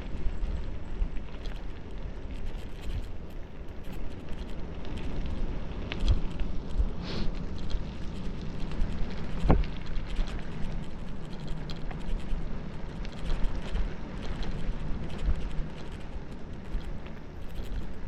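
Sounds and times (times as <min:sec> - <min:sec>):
bicycle tyres on rough road: 0:00.0 - 0:18.0
wind buffeting microphone: 0:00.0 - 0:18.0
small clicks and rattles: 0:01.3 - 0:18.0.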